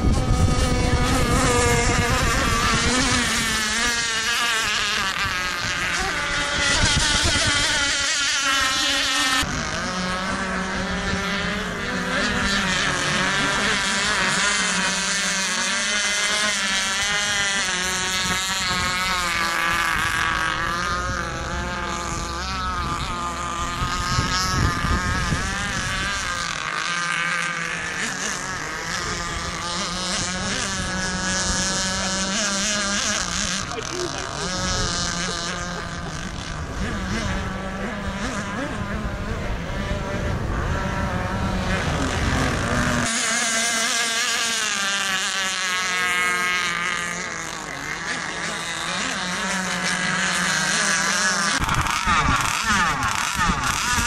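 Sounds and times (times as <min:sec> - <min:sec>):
model boat motors buzzing: 0:00.0 - 0:54.0.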